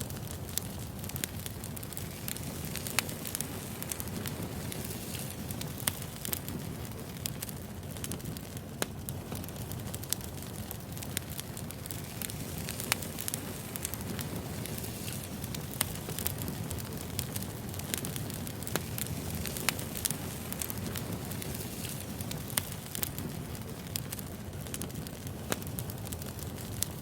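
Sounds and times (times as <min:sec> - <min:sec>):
burning logs crackling and popping: 0:00.0 - 0:27.0
low rumble of wood fire: 0:00.0 - 0:27.0.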